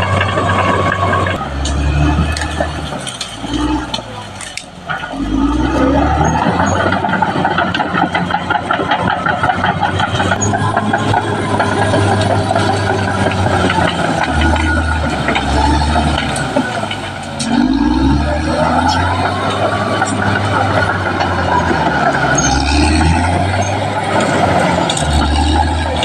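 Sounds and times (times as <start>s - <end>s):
bulldozer diesel engine under load: 0.0s - 26.0s
steel tracks clanking: 0.0s - 26.0s.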